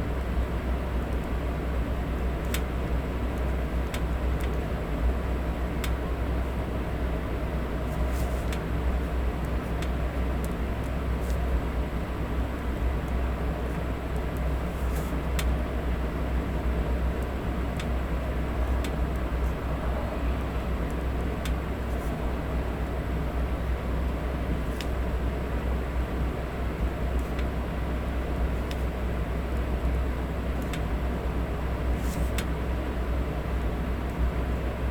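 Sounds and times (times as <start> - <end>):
electric fan running: 0.0 - 34.9.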